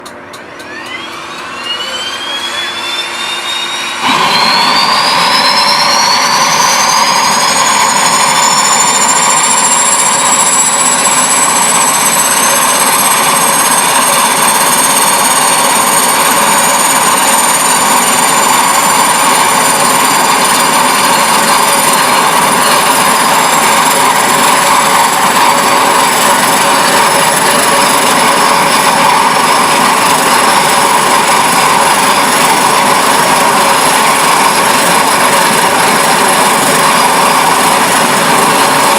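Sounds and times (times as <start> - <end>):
jet engine whine and roar: 0.0 - 38.9.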